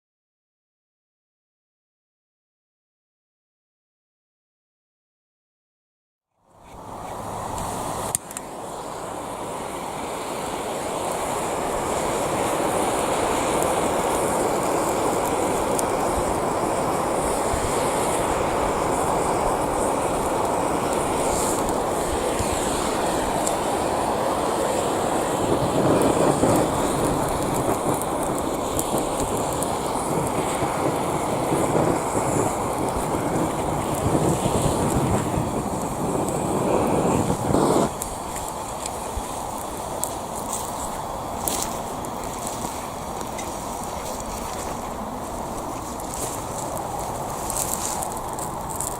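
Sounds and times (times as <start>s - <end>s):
gas torch flame rushing: 6.6s - 48.9s.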